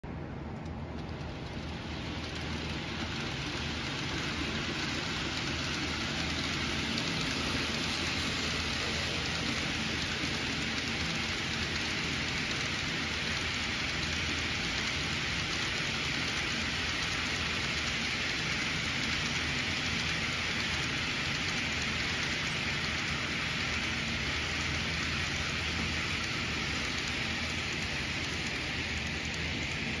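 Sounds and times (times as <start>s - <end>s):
model train wheels on track: 0.1s - 30.0s.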